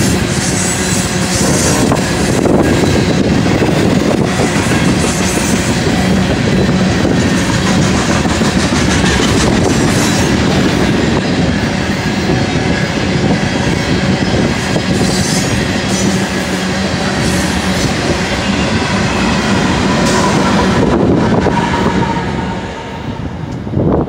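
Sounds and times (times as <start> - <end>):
diesel locomotives: 0.0 - 24.0
steel wheels rumbling on rail: 0.0 - 24.0.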